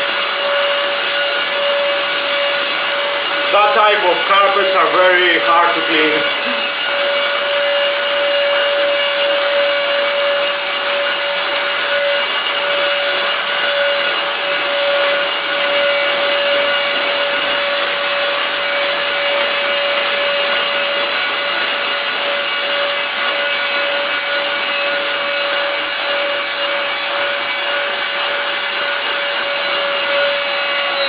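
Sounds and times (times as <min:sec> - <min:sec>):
vacuum cleaner motor whine: 0:00.0 - 0:31.0.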